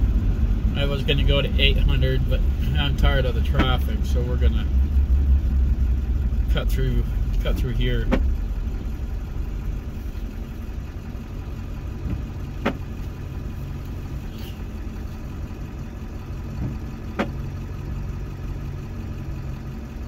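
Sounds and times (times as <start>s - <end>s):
engine and road hum: 0.0s - 20.0s.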